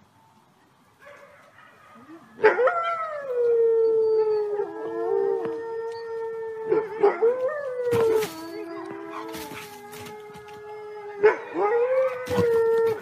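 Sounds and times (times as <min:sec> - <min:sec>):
small dogs howling: 0:02.4 - 0:13.0.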